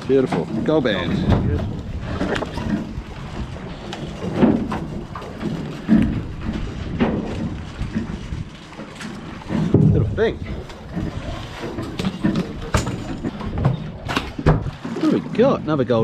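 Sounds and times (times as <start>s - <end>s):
rumbling wind: 0.0s - 16.0s
sea noise: 0.0s - 16.0s.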